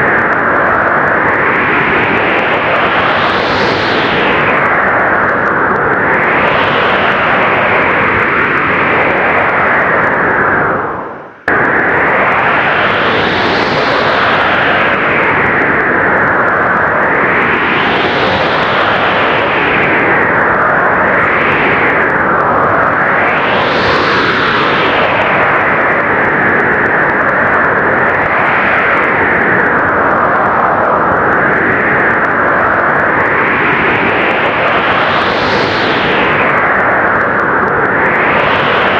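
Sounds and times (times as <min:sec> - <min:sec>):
blizzard wind gusting: 0:00.0 - 0:38.9.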